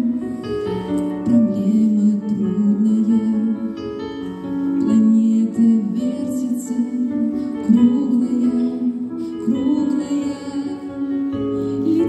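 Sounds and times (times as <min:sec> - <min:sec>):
woman singing: 0:00.9 - 0:04.0, 0:04.8 - 0:12.0.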